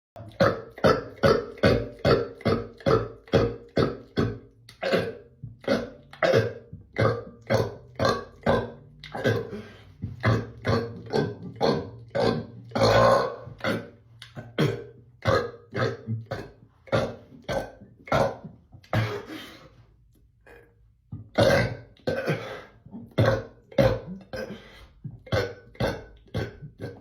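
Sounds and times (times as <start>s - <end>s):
man burping: 0.2s - 19.6s, 20.4s - 27.0s.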